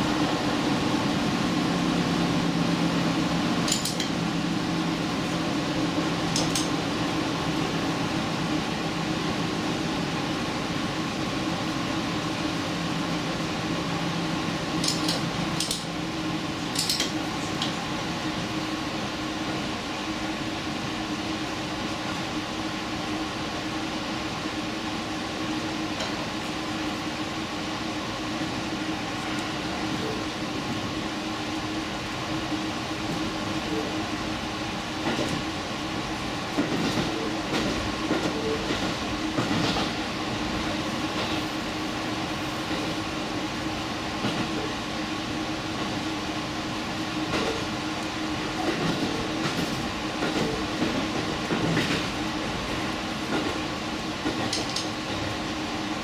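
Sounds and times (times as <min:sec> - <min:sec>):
train running noise: 0:00.0 - 0:56.0.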